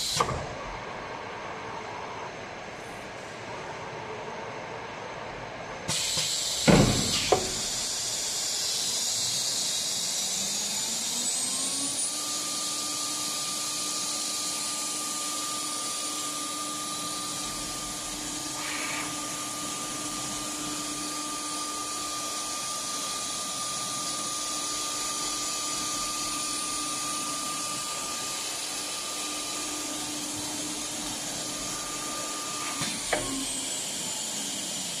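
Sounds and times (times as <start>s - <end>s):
router spindle whining: 6.6s - 35.0s.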